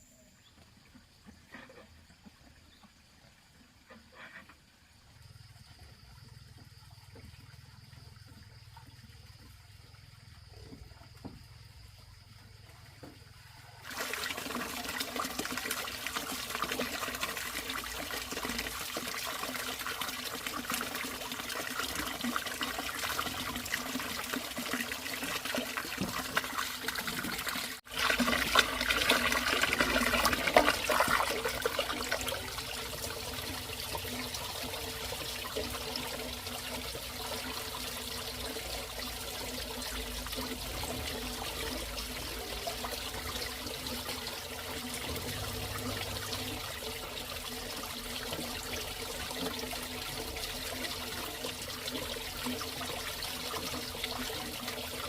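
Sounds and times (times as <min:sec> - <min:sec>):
running water trickling: 0:00.5 - 0:55.0.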